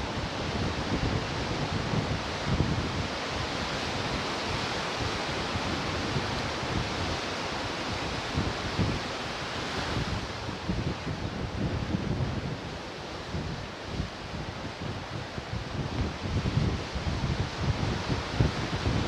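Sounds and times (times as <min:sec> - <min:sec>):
ocean surf washing onto shore: 0:00.0 - 0:19.0
wind buffeting microphone: 0:00.0 - 0:19.0.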